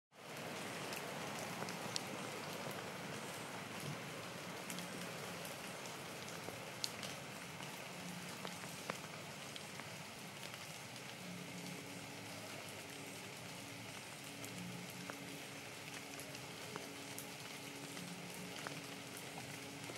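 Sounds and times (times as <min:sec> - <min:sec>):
rain falling on leaves: 0:00.1 - 0:19.9.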